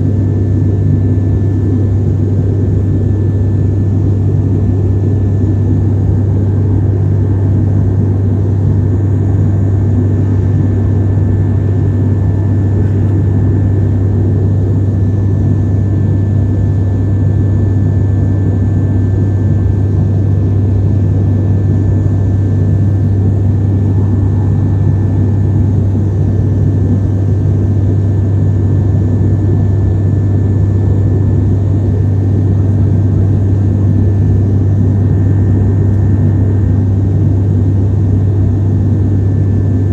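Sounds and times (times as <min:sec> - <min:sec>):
aeroplane engine drone: 0:00.0 - 0:39.9.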